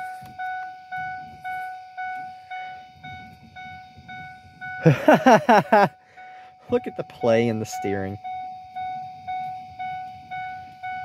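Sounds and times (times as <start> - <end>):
dashboard warning chime dinging: 0.0 - 11.0.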